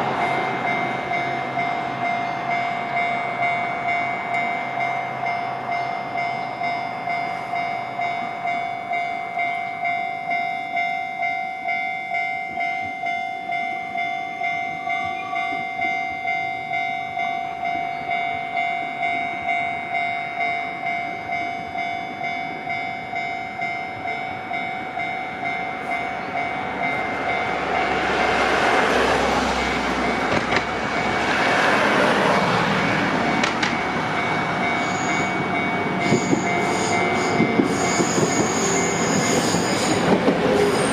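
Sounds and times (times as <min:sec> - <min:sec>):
electric train passing: 0:00.0 - 0:40.9
level-crossing warning alarm ringing: 0:00.0 - 0:40.9.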